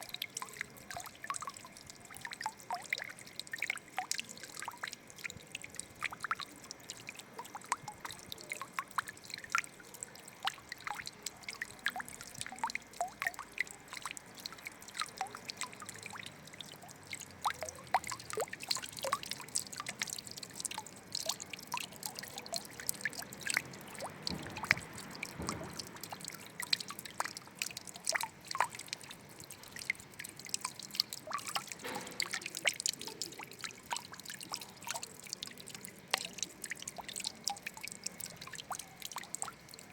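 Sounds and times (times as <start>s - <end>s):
water gurgle: 0.0s - 39.9s
water trickling and dripping: 0.0s - 39.9s.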